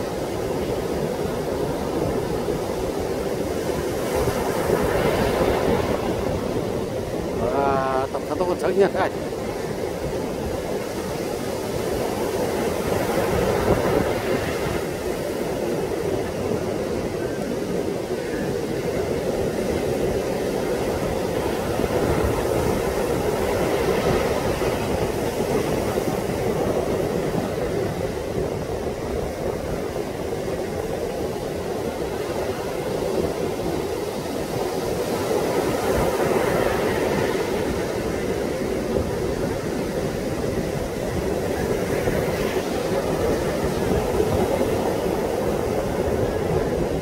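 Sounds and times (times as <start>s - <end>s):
waves breaking on beach: 0.0s - 47.0s
wind buffeting microphone: 0.0s - 47.0s.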